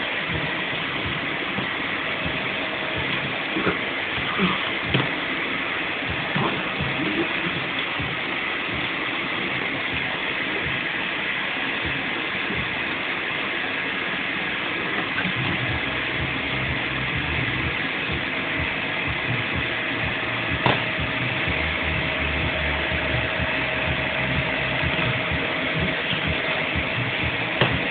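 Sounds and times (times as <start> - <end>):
vacuum cleaner motor running: 0.1 - 27.9.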